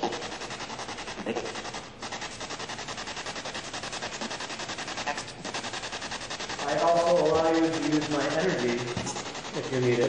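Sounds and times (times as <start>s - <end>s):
radio static chopping rapidly: 0.0s - 10.0s.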